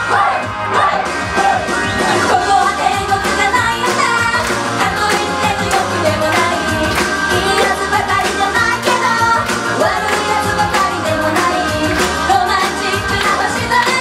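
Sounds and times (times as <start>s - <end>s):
rock backing music: 0.0s - 14.0s
steady drum beat: 0.0s - 14.0s
women singing punk rock: 0.0s - 14.0s.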